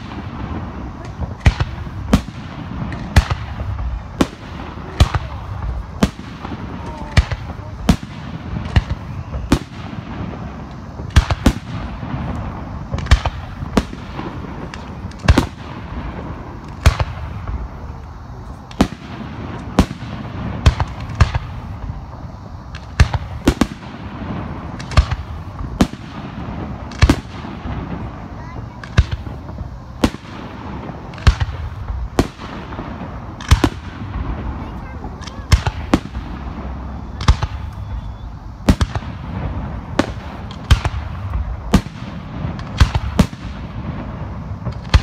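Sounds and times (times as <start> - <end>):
fireworks bursting with sharp bangs: 0.0 - 45.0.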